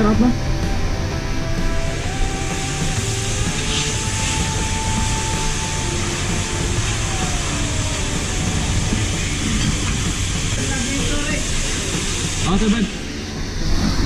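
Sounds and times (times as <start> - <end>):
engine whine: 0.0 - 14.0
heavy engine running: 0.0 - 14.0.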